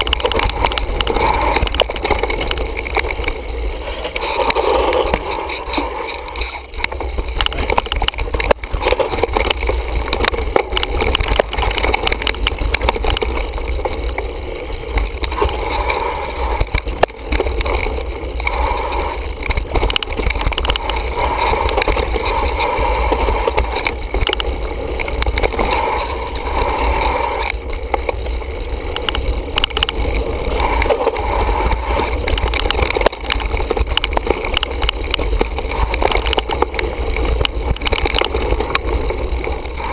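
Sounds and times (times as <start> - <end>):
bike knocking and rattling: 0.0 - 39.9
tyres rolling on dirt: 0.0 - 39.9
wind on microphone: 0.0 - 39.9.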